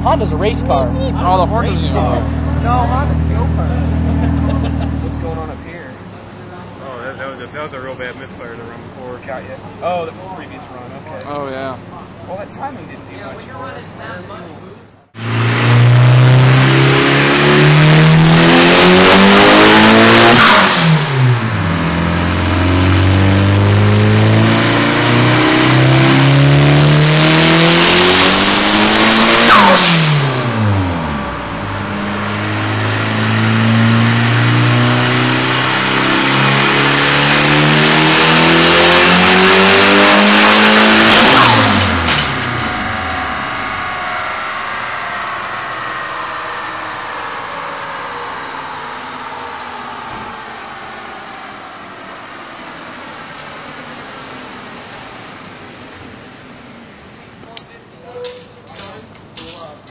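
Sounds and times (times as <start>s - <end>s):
car engine revving at full throttle: 0.0s - 6.4s, 15.2s - 57.3s.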